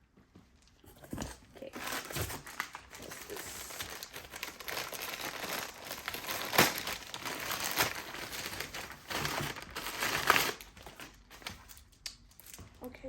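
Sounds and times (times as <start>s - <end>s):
packaging crinkling and rustling: 0.6s - 12.9s.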